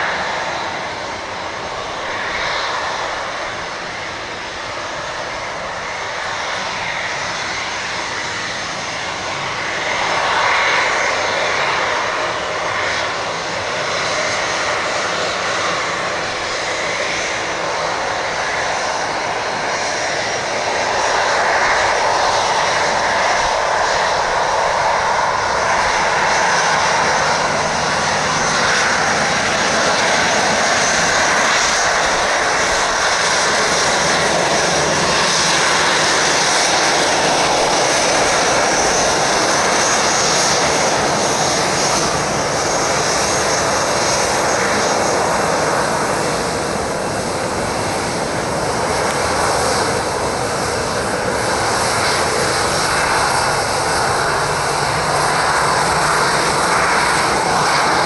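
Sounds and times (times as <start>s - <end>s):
jet engines at taxi power: 0.0s - 58.0s.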